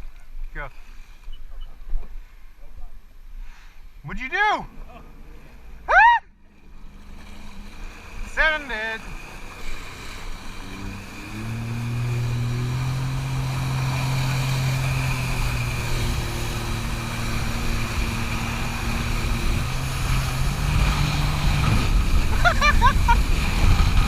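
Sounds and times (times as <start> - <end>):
jet ski engine: 4.1 - 24.0.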